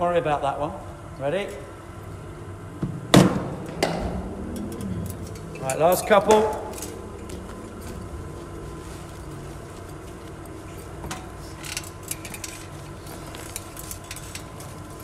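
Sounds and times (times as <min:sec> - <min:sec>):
bowling machine humming: 0:00.0 - 0:13.4.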